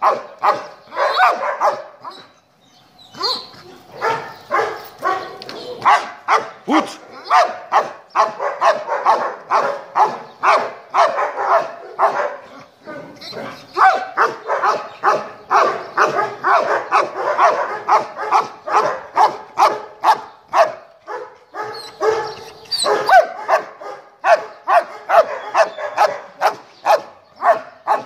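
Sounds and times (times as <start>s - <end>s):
dog barking: 0.0s - 2.3s, 3.2s - 28.0s.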